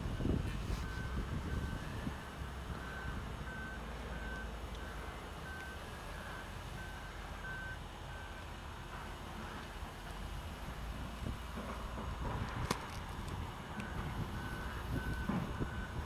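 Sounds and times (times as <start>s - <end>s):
vehicle reversing alarm beeping: 0.0s - 10.6s, 13.5s - 16.0s.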